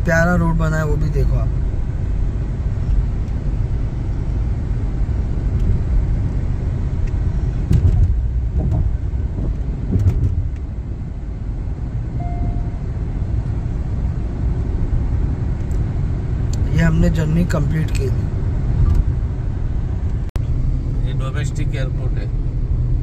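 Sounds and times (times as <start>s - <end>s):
car road noise inside cabin: 0.0s - 23.0s.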